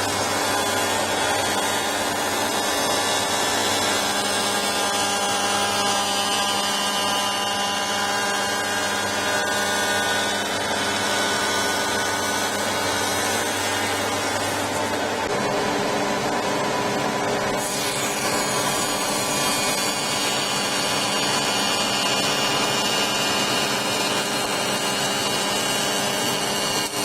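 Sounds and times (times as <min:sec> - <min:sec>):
planer thicknesser whining: 0:00.0 - 0:27.0.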